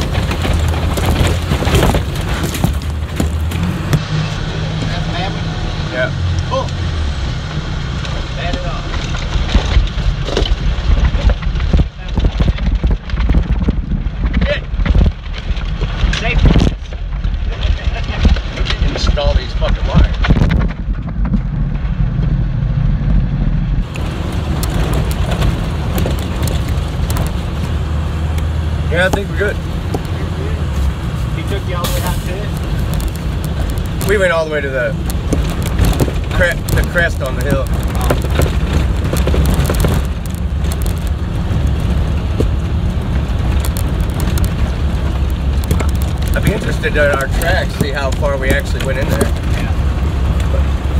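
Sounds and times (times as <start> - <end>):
rattles and knocks: 0.0 - 4.9, 8.0 - 22.3, 23.8 - 50.9
bus engine and tyres rumbling: 0.0 - 50.9.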